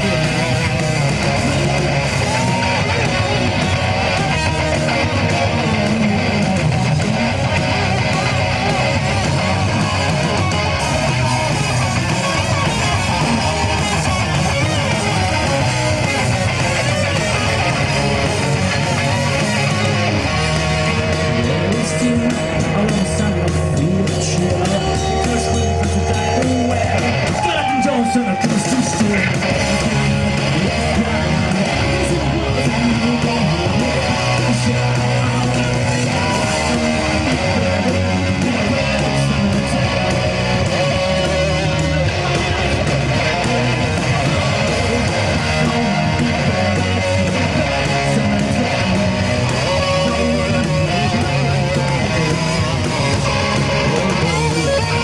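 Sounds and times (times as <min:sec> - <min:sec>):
bass guitar: 0:00.0 - 0:55.0
distorted electric guitar strumming: 0:00.0 - 0:55.0.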